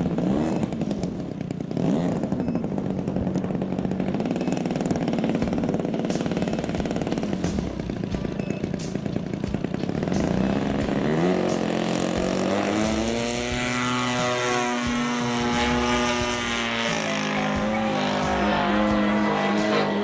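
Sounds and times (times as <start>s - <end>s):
model aeroplane engine revving: 0.0s - 20.0s.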